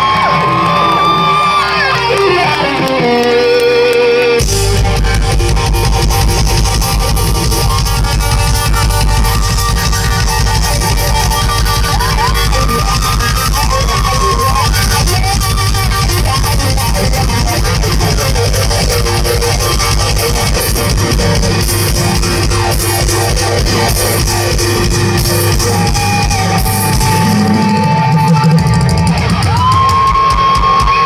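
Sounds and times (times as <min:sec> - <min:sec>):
guitar: 0:00.0 - 0:31.0
live reggae band playing: 0:01.0 - 0:31.0.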